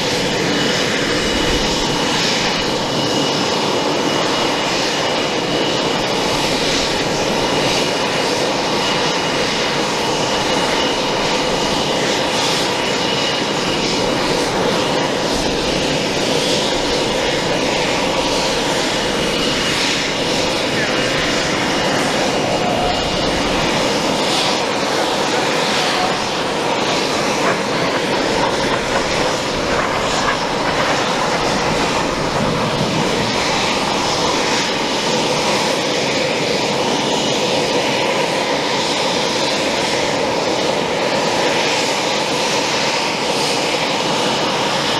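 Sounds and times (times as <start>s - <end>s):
high engine whine: 0.0s - 44.9s
jet engines idling: 0.0s - 44.9s.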